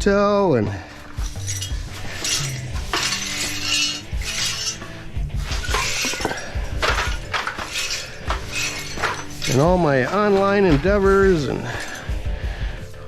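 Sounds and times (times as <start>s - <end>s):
background music with bass notes: 0.0s - 13.0s
metallic clinking: 0.8s - 12.3s
rustling of metal scraps: 0.8s - 13.0s.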